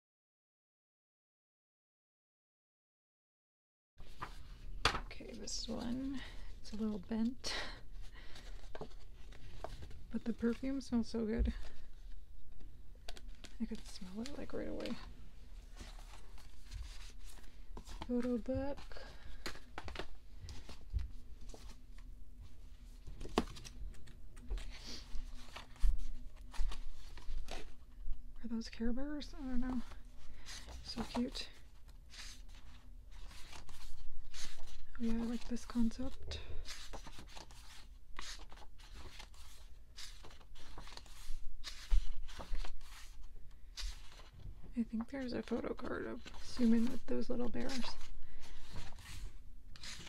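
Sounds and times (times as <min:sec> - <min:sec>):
book pages turning: 0:04.0 - 0:07.4, 0:08.0 - 0:28.1, 0:29.5 - 0:50.0.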